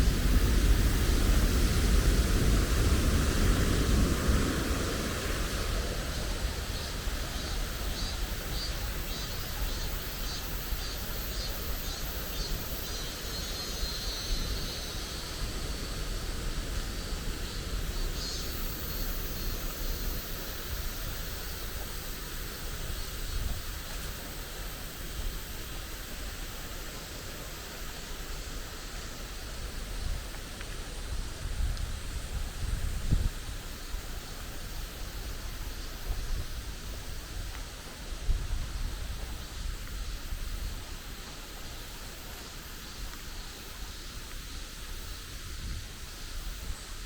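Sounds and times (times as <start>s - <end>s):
rushing outdoor noise: 0.0s - 47.0s.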